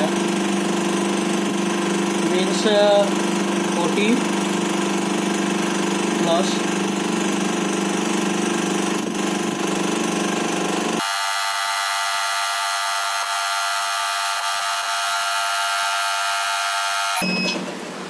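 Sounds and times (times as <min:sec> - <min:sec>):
hydraulic pump humming: 0:00.0 - 0:18.0.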